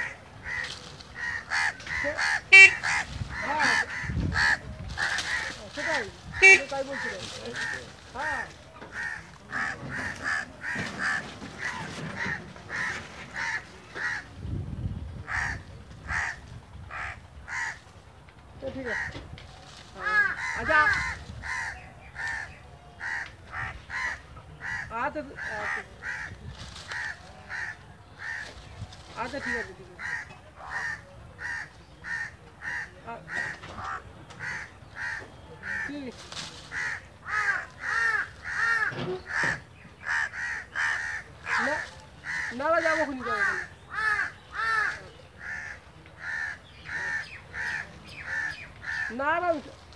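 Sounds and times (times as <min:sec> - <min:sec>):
crows cawing: 0:00.0 - 0:14.5, 0:15.2 - 0:49.9.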